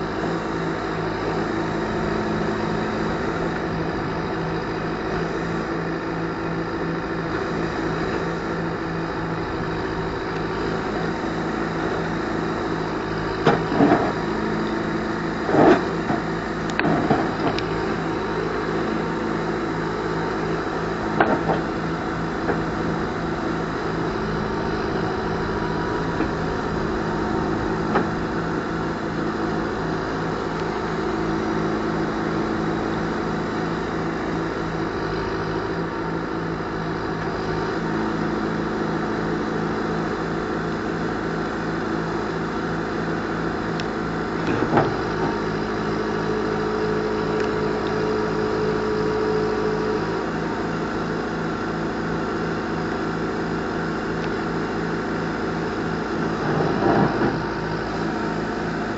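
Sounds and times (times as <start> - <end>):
diesel engine running: 0.0 - 58.9
steady whine: 0.0 - 58.9.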